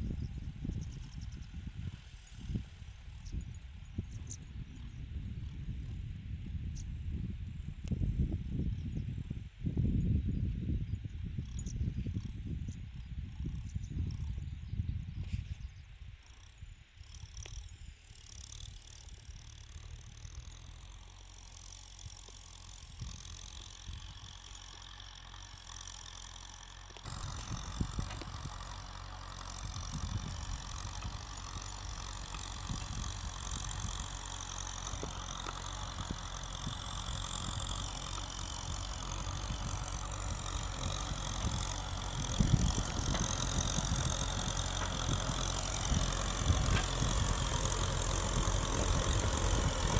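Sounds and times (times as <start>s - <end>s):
tractor diesel engine running: 0.0s - 9.2s, 16.6s - 49.9s.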